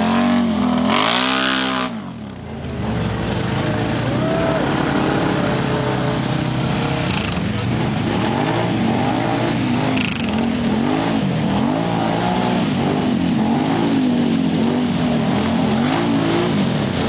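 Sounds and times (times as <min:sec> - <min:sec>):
atv engines revving: 0:00.0 - 0:17.0
vehicles splashing through water: 0:00.0 - 0:17.0.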